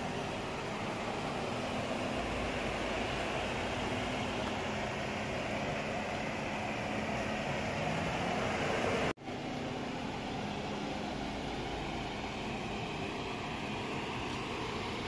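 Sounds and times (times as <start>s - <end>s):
fan or motor running: 0.0s - 15.0s.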